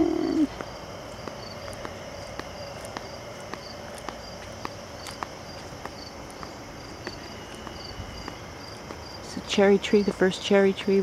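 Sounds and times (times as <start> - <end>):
crickets trilling and chirping: 0.0 - 11.0
footsteps: 0.0 - 11.0.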